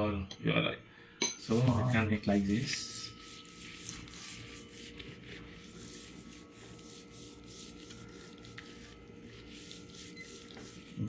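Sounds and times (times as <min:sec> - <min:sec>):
hands rubbing paste into fish: 0:01.5 - 0:11.0.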